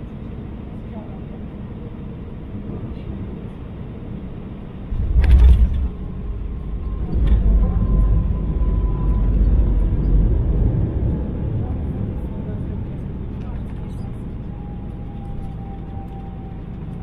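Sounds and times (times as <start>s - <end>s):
airplane cabin noise: 0.0s - 17.0s
wheels rumbling on runway: 0.0s - 17.0s.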